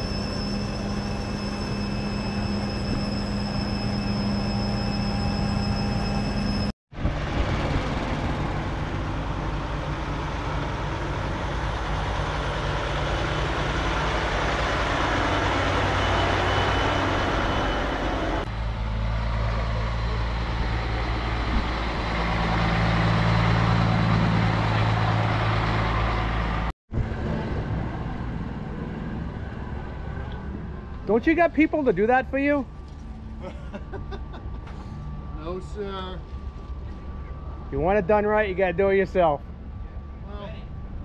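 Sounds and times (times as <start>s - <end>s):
diesel truck engines running: 0.0s - 41.0s.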